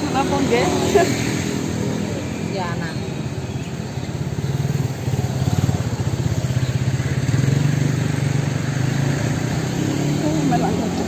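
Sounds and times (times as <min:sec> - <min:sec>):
vehicle engine idling: 0:00.0 - 0:08.9.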